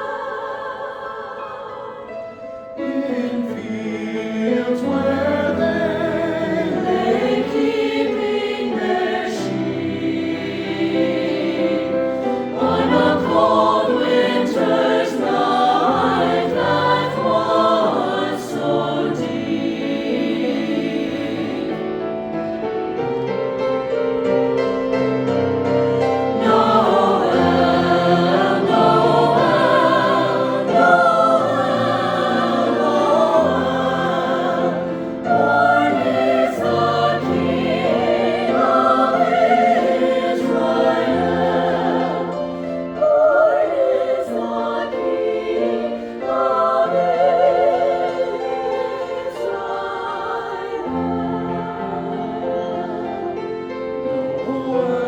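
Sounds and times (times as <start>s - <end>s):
choir singing with vibrato: 0.0s - 55.0s.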